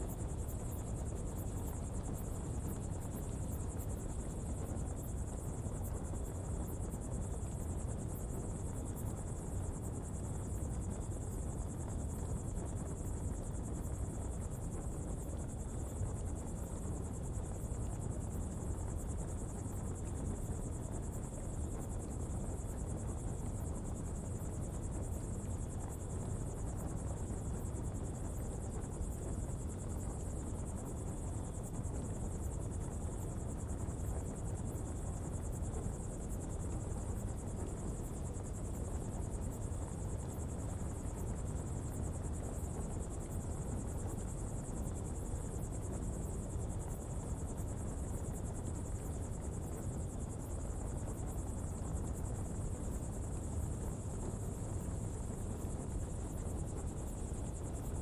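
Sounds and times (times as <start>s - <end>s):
high insect drone: 0.0s - 58.0s
low rumble of fire burning: 0.0s - 58.0s.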